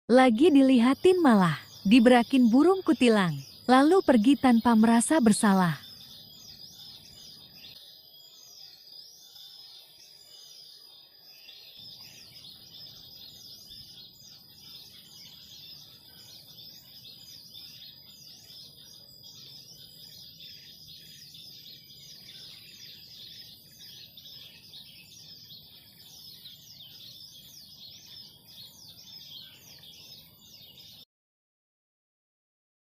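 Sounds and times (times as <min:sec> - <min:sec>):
small birds chirping: 0:00.1 - 0:31.1.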